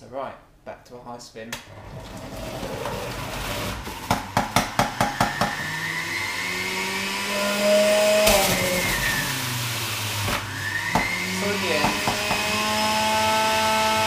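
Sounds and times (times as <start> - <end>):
juicer motor humming: 1.7 - 14.0.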